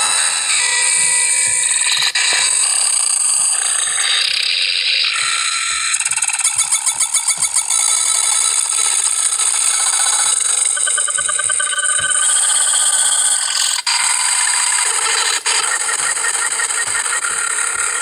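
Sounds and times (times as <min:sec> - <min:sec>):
harsh high-pitched sound effects: 0:01.4 - 0:18.0.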